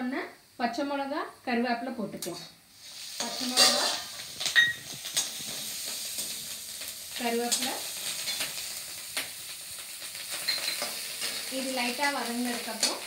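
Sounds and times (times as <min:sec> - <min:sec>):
chillies sizzling in hot oil: 0:00.0 - 0:13.0.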